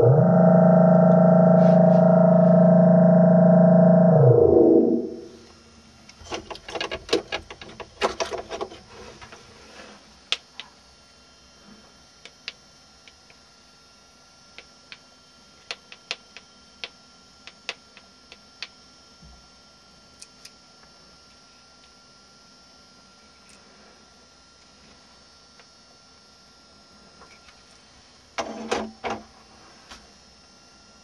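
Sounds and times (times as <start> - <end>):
faint electronic whine: 0.0 - 6.3, 8.9 - 31.0.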